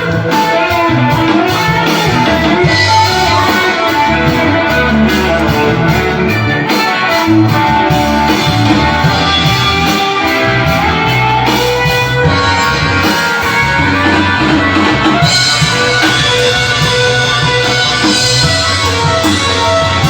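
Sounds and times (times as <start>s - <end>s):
bass line: 0.0s - 20.0s
overdriven electric guitar: 0.0s - 20.0s.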